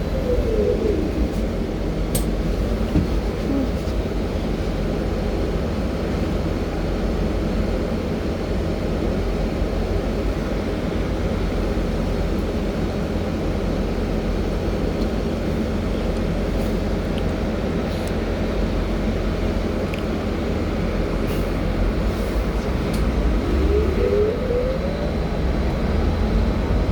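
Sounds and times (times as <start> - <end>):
trolleybus interior rumble: 0.0 - 26.9.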